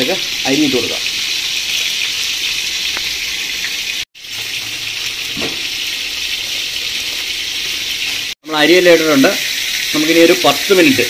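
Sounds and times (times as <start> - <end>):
water boiling and bubbling: 0.0 - 11.0.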